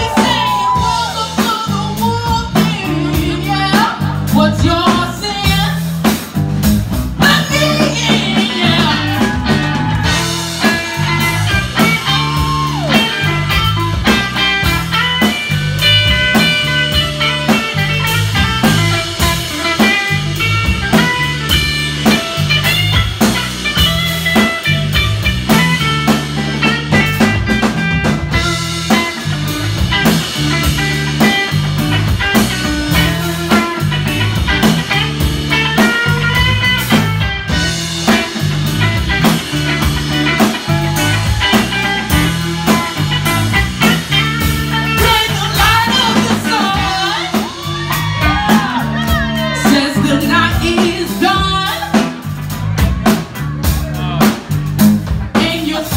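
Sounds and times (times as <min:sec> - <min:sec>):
blues-rock band playing: 0:00.0 - 0:55.9
electric guitar lead: 0:00.0 - 0:55.9.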